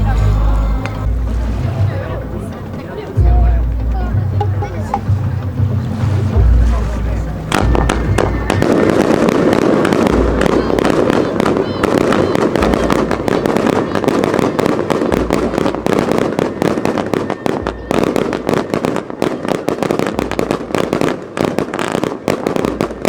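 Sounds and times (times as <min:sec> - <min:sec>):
continuous rumble: 0:00.0 - 0:23.0
fireworks bangs and crackling: 0:00.0 - 0:23.0.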